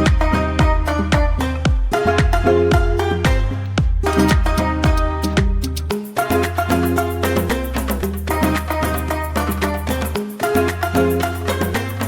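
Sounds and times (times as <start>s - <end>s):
latin dance music: 0.0s - 12.0s.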